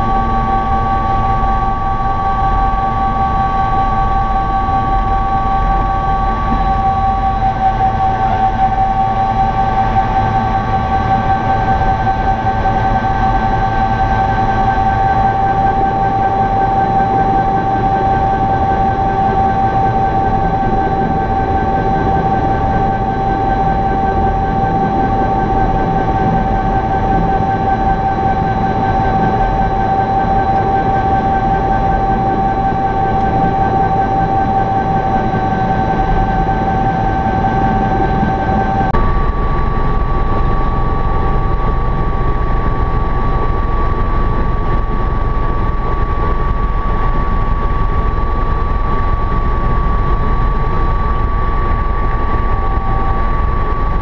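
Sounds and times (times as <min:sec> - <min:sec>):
helicopter rotor and engine rumble: 0:00.0 - 0:54.0
high engine whine: 0:00.0 - 0:54.0.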